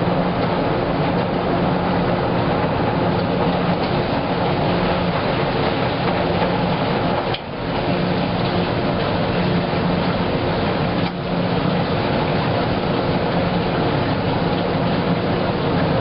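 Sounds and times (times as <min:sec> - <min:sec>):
washing machine motor hum and rumble: 0:00.0 - 0:16.0.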